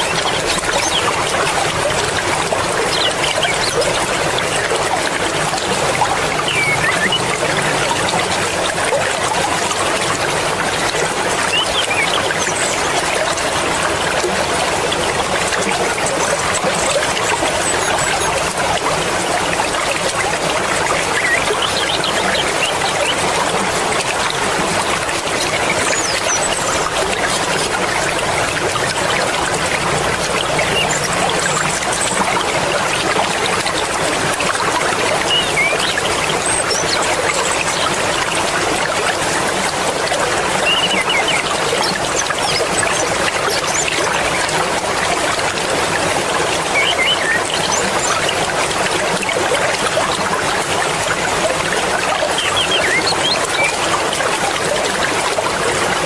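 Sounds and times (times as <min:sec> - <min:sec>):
mountain river rushing: 0:00.0 - 0:56.0.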